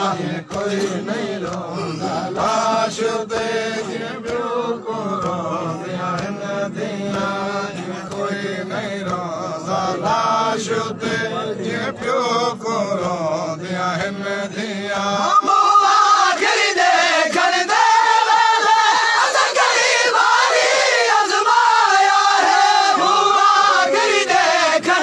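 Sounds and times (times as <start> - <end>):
men chanting in unison: 0.0 - 25.0.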